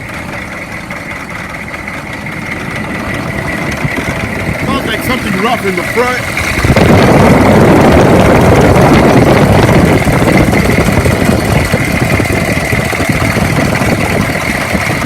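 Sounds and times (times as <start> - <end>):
diesel engine clattering: 0.0 - 15.0
high engine whine: 0.0 - 15.0.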